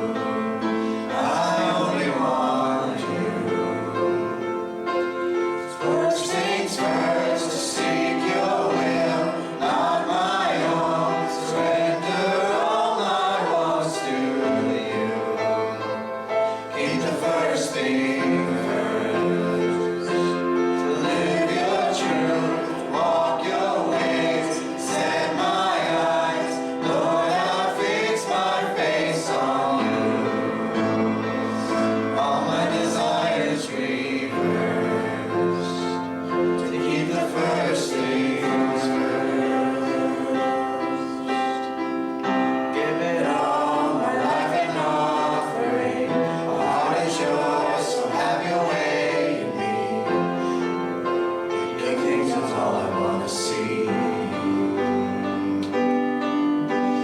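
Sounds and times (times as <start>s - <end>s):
group of voices singing: 0.0s - 57.0s
instrumental accompaniment: 0.0s - 57.0s.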